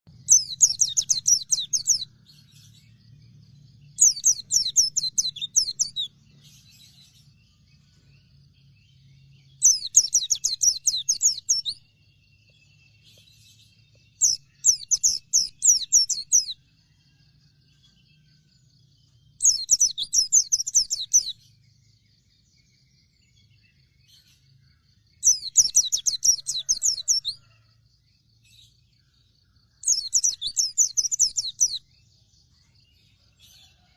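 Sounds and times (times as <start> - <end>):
bird twittering song: 0.1 - 33.9.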